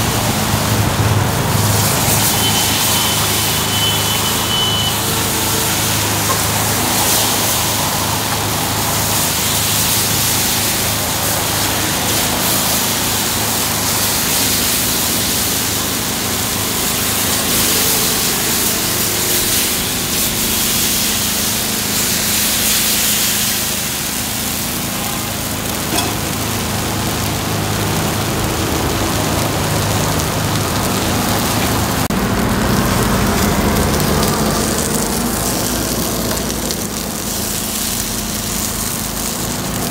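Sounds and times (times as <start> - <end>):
food sizzling on griddle: 0.0 - 39.9.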